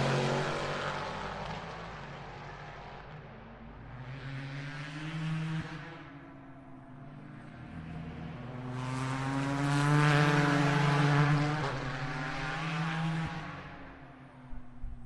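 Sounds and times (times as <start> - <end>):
race car engine passing: 0.0 - 6.4, 7.0 - 14.0.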